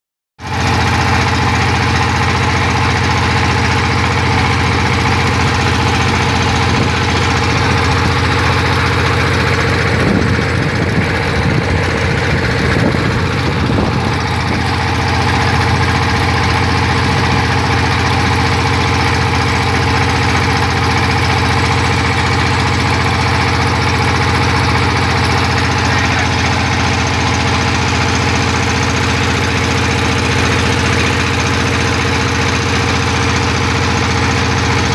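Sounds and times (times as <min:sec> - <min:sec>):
drill rig engine running: 0:00.4 - 0:34.9.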